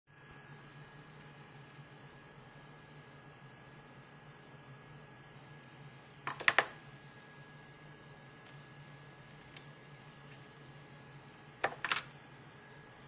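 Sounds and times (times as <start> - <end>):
faint high whine: 0.1 - 13.0.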